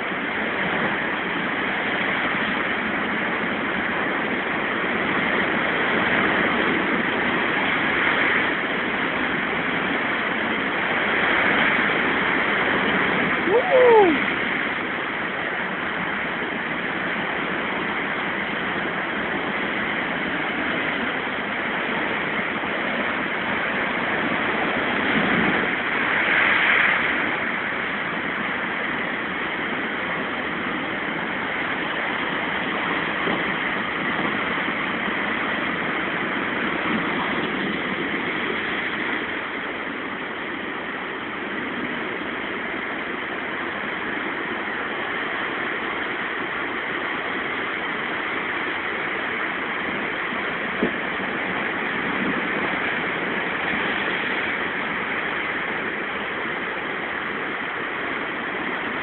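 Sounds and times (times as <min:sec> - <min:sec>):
waves breaking over rocks: 0:00.0 - 0:59.0.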